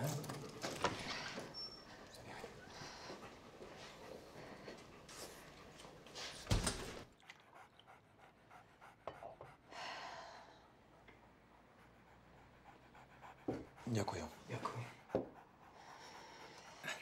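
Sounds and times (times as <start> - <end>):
dog panting: 0.2 - 10.0, 10.6 - 17.0.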